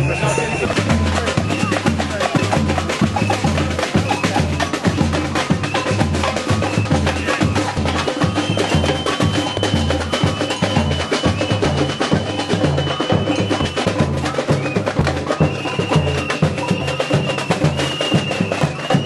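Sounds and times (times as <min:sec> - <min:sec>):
fast percussion rhythm: 0:00.0 - 0:19.0.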